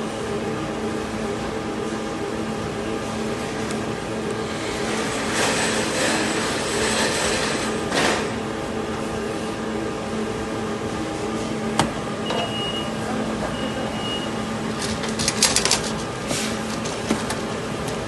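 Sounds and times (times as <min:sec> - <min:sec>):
packaging machinery humming: 0:00.0 - 0:18.0.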